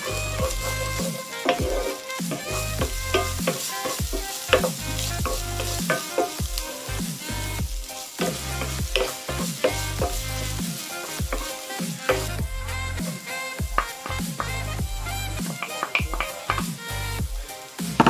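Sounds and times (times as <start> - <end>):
wooden spatula scraping pan: 0.0 - 17.2
food sizzling in frying pan: 0.0 - 18.0.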